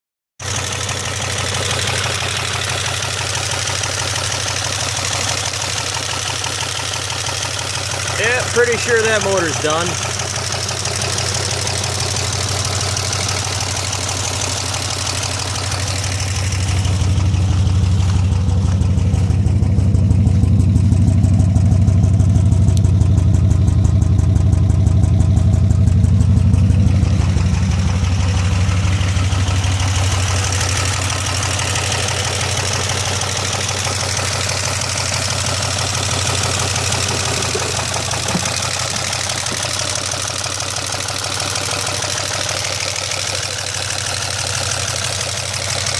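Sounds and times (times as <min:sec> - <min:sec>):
car engine rapid pulsing: 0:00.4 - 0:45.9.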